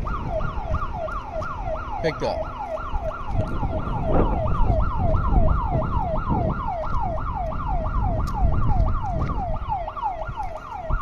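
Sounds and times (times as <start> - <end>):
electronic alarm siren wailing: 0.0 - 11.0.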